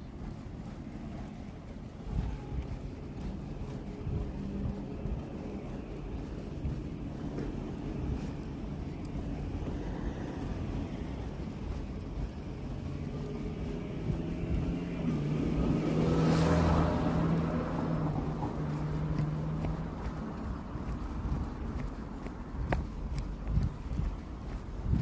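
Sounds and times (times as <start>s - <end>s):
car passing by: 0.0s - 25.0s
low outdoor rumble: 0.0s - 25.0s.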